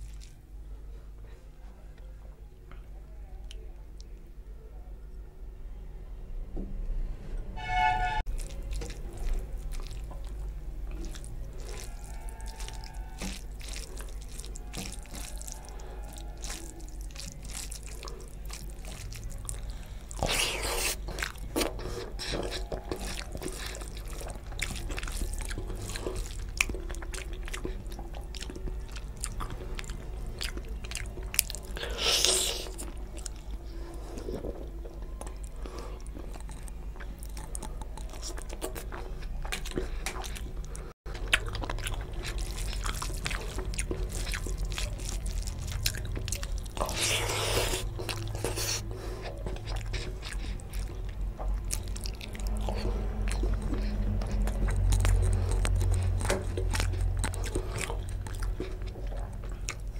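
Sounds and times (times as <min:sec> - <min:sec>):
wet chewing and lip smacks: 0:08.3 - 0:59.9.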